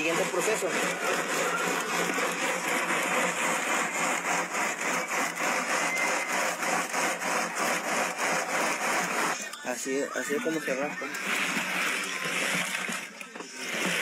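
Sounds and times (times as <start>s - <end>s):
wooden paddle rasping in metal pot: 0.0s - 9.5s, 10.6s - 14.0s.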